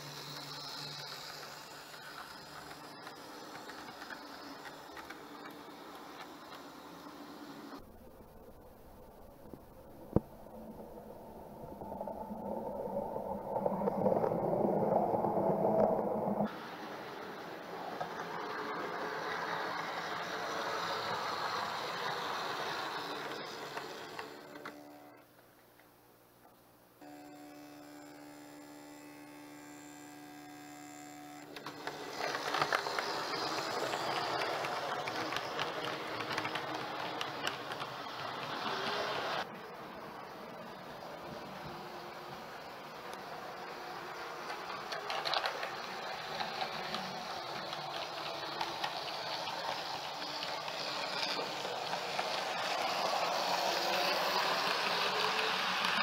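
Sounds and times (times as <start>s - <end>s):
model train wheels clicking on rails: 0.0s - 7.9s, 15.8s - 25.2s, 27.1s - 56.0s.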